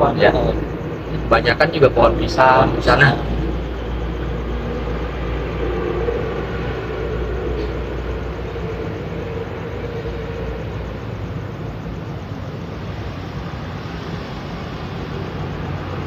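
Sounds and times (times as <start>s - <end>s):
engine hum: 0.0s - 16.0s
traffic rumble: 0.0s - 16.0s.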